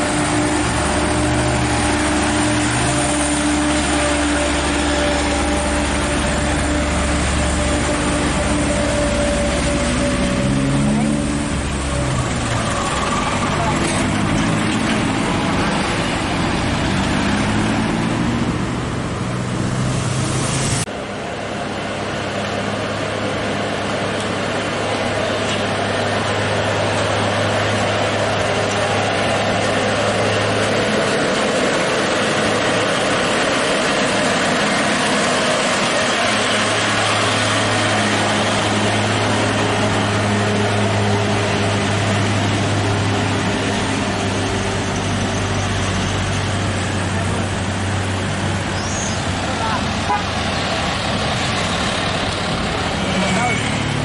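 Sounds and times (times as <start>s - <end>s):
diesel truck engine climbing: 0.0s - 54.0s
road noise: 0.0s - 54.0s.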